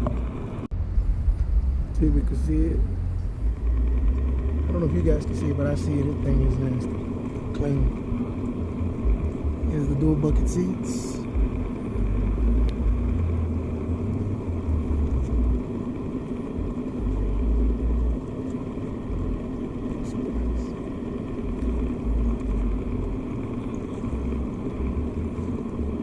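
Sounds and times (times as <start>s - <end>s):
low uneven rumble: 0.0s - 26.0s.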